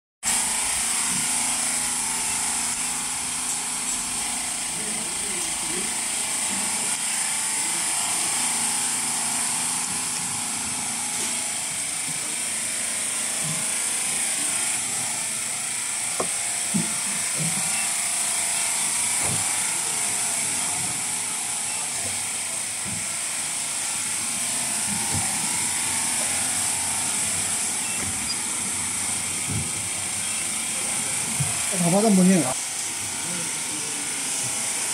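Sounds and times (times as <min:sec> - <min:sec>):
machine whirring and hissing: 0:00.4 - 0:34.9.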